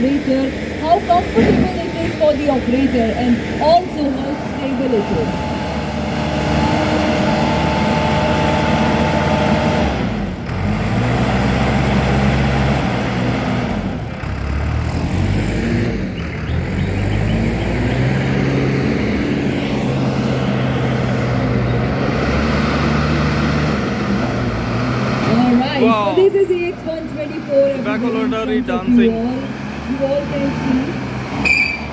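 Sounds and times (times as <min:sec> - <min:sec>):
diesel engine under load: 0:00.0 - 0:31.9.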